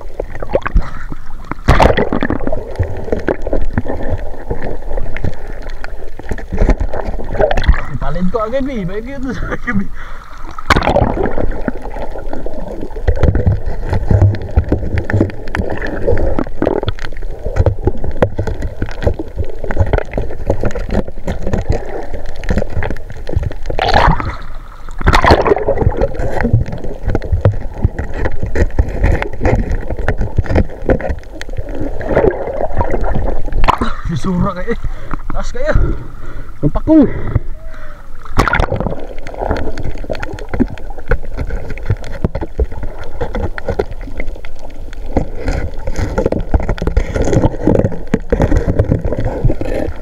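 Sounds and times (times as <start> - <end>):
crackling: 0.0 - 50.0
sea water gurgling and sloshing: 0.0 - 50.0.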